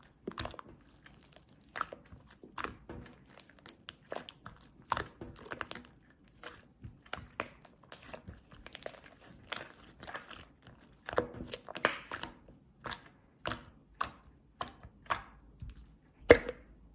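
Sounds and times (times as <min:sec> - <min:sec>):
slime being squished by hand: 0:00.0 - 0:16.7.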